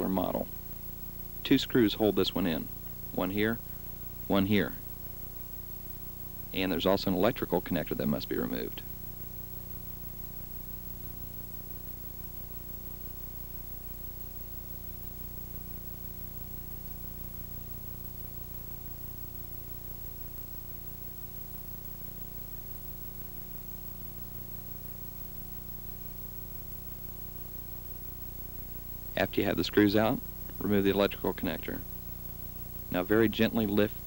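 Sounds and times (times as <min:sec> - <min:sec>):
low hum of held tones: 0:00.0 - 0:34.0
tape hiss: 0:00.0 - 0:34.0.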